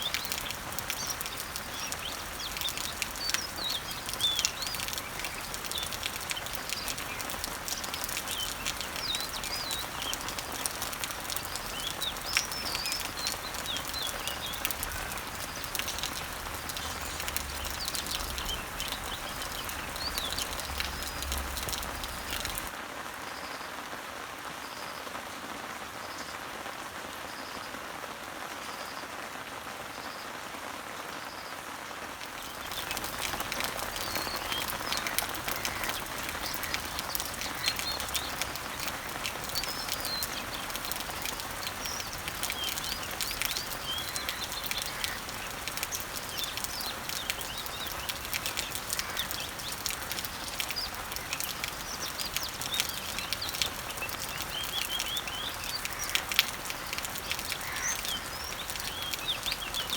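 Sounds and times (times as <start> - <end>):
small birds chirping: 0.0 - 22.8, 32.2 - 59.9
rain pattering on leaves: 0.0 - 59.9.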